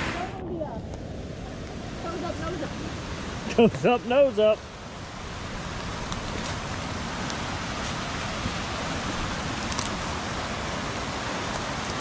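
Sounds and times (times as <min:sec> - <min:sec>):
flooded creek rushing: 0:00.0 - 0:12.0.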